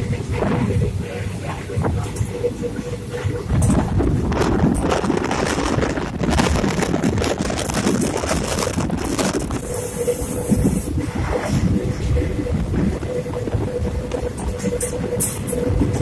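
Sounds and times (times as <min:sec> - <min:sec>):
train rumble and clatter: 0:00.0 - 0:16.0
wind buffeting microphone: 0:00.0 - 0:16.0.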